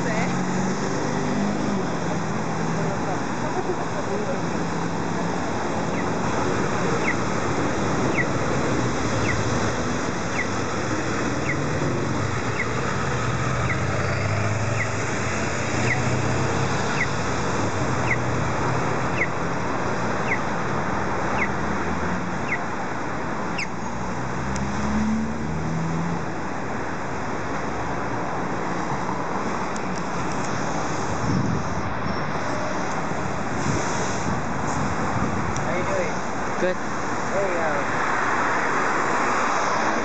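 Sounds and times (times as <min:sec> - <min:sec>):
cars passing: 0:00.0 - 0:40.0.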